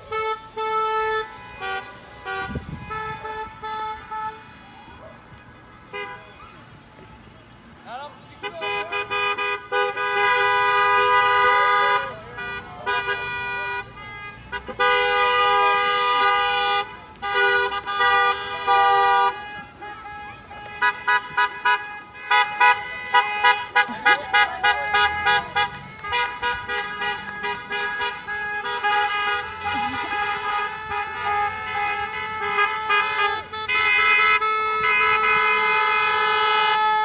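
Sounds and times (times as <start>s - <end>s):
car horns honking: 0.0s - 5.0s, 5.7s - 37.0s.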